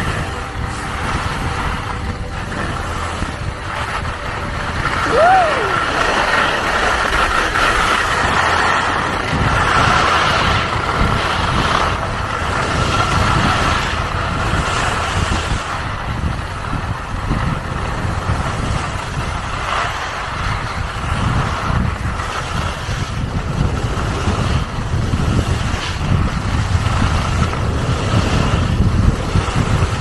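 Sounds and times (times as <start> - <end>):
skis sliding on soft snow: 0.0 - 30.0
wind rushing over microphone: 0.0 - 30.0.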